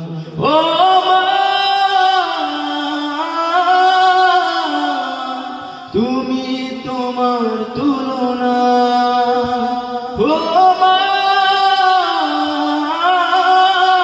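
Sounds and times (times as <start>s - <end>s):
person singing long notes: 0.0s - 14.0s.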